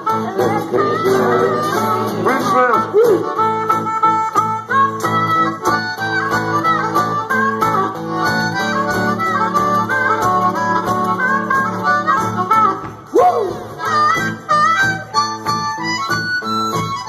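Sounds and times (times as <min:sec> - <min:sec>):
harmonica playing: 0:00.0 - 0:17.0
strummed acoustic guitar: 0:00.0 - 0:17.0.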